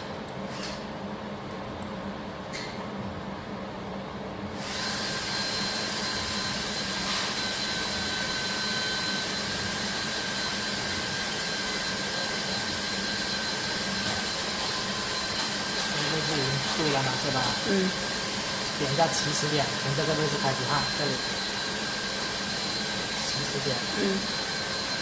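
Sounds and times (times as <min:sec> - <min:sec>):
blower noise with high whine: 0:00.0 - 0:25.0
welding machine humming: 0:04.6 - 0:25.0.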